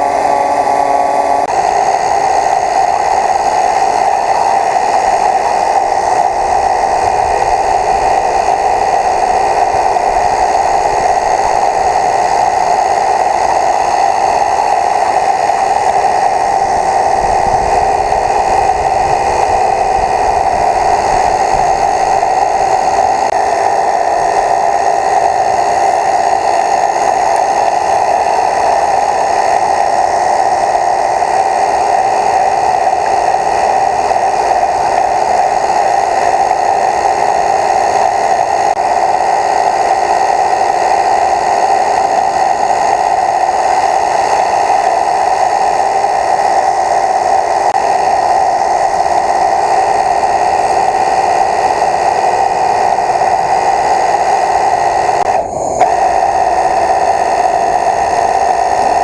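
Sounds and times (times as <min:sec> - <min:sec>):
mechanical whir: 0:00.0 - 0:59.0.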